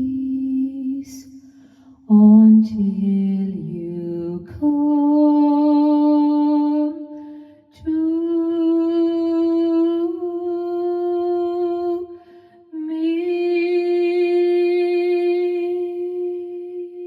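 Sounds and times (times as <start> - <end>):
woman singing a ballad: 0.0 - 17.0.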